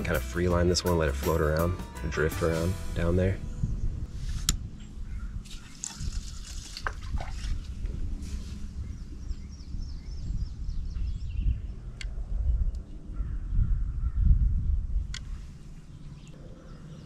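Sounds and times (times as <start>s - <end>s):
birds calling and chirping: 0.0s - 17.0s
low steady rumble: 0.0s - 17.0s.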